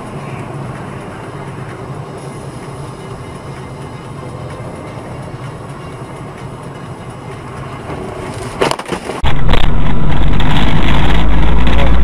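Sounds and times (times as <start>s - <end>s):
muffled low vehicle rumble: 0.0s - 12.0s
vehicle road noise: 0.0s - 12.0s.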